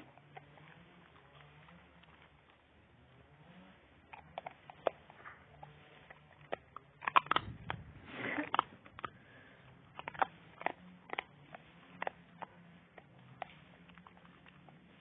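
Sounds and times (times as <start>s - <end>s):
dog cracking nut shells: 0.0s - 2.8s, 4.0s - 14.9s.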